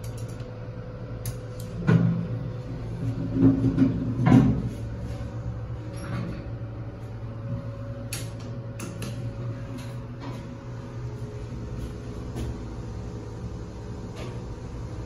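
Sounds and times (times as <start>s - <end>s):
elevator hum: 0.0s - 15.0s.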